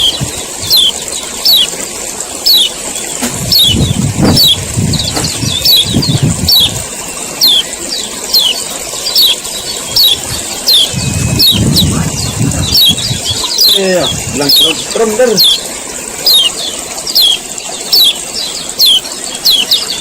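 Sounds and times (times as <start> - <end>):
white-eye sharp calls: 0.0 - 20.0.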